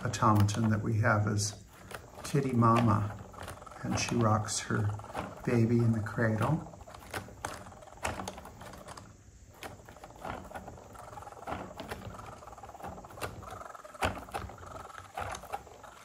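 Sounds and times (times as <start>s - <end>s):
faint steady whir: 0.0s - 16.0s.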